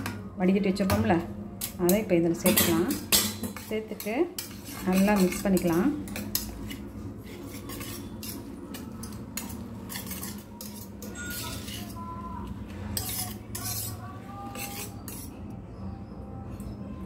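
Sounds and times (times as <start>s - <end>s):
metal spoon scraping steel bowl: 1.6s - 15.9s.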